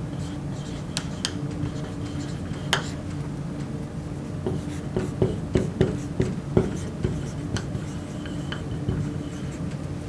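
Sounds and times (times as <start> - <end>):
steady low hum: 0.0 - 10.0
marker writing on whiteboard: 0.1 - 3.0, 4.4 - 9.6.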